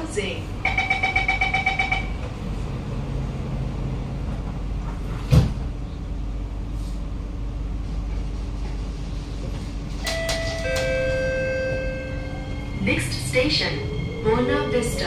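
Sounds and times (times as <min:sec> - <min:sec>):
train carriage low rumble: 0:00.0 - 0:15.0.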